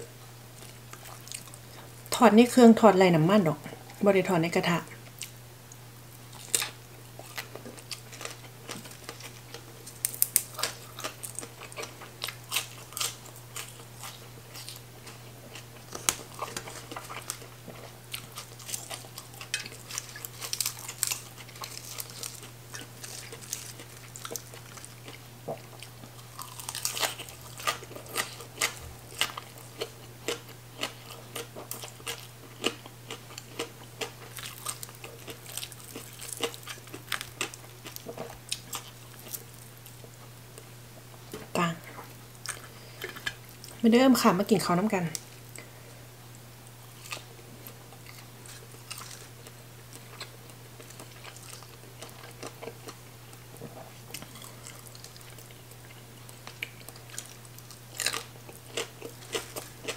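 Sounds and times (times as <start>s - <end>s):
crunchy chewing: 0.6s - 1.9s, 5.0s - 43.8s, 46.6s - 59.9s.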